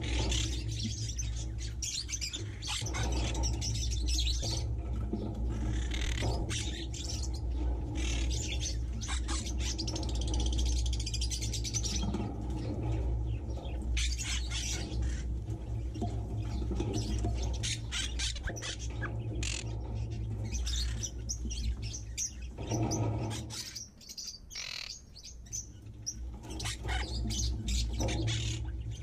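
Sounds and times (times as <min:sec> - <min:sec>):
small birds chirping and chattering: 0:00.0 - 0:29.0.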